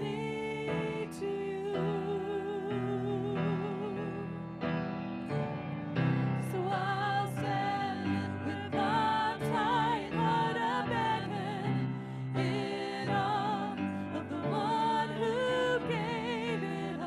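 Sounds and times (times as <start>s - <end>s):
women singing worship song: 0.0s - 4.5s, 6.3s - 17.0s.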